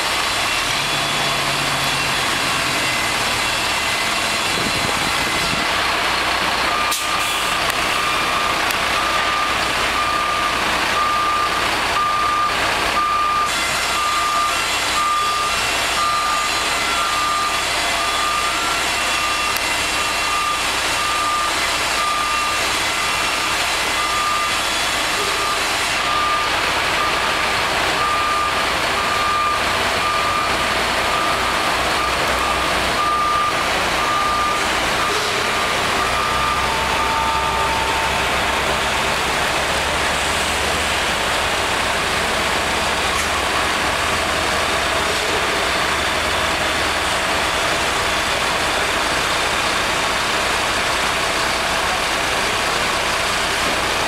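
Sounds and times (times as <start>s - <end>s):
reversing alarm beeping: 0.0s - 50.9s
diesel engine running under load: 0.0s - 54.0s.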